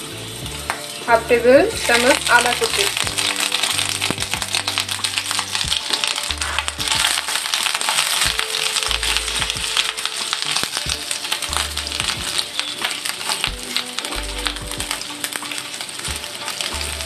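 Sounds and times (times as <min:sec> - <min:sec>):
food sizzling in hot oil: 0:00.0 - 0:17.0
spatula stirring in pan: 0:01.7 - 0:17.0.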